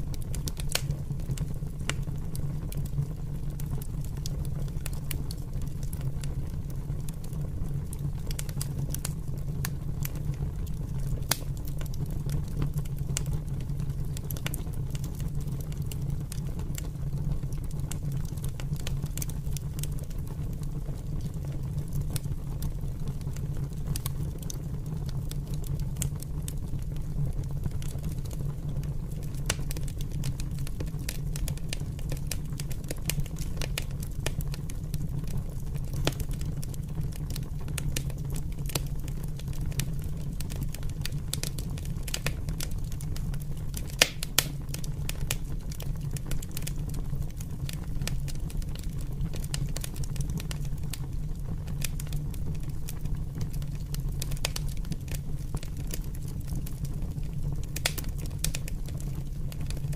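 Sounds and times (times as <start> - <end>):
fire crackling and popping: 0.0 - 59.9
low rumble of fire: 0.0 - 59.9.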